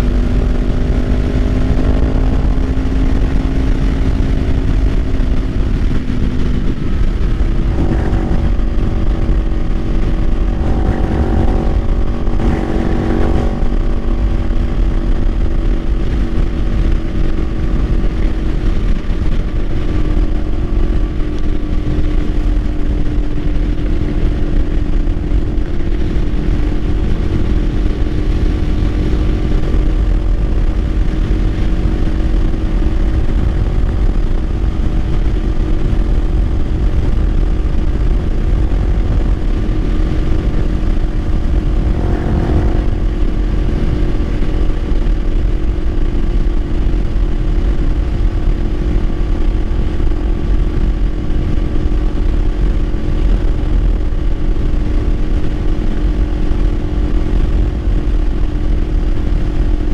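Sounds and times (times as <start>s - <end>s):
motorcycle engine cruising: 0.0s - 59.9s
wind rumble on microphone: 0.0s - 59.9s.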